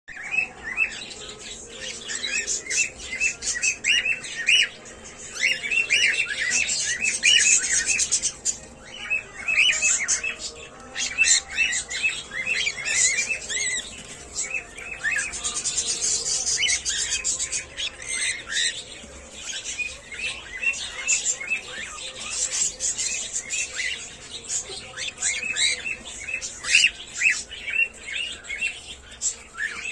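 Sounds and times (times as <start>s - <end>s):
cockatiels chirping: 0.1s - 29.9s.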